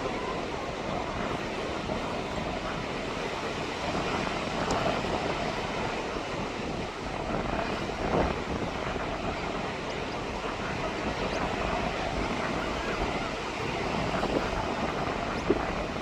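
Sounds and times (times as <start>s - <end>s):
waves washing onto beach: 0.0s - 16.0s
wind noise: 0.0s - 16.0s.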